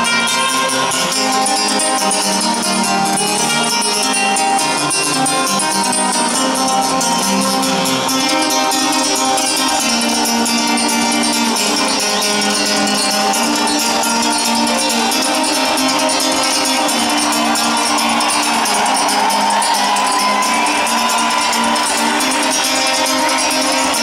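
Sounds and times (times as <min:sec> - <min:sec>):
acoustic guitar picking: 0:00.0 - 0:24.0.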